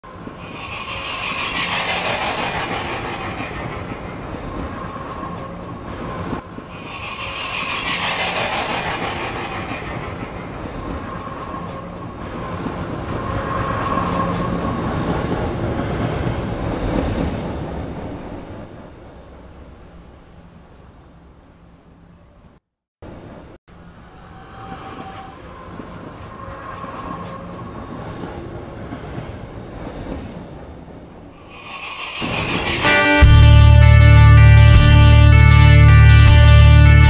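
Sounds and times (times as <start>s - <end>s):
train running on rails: 0.0s - 37.0s.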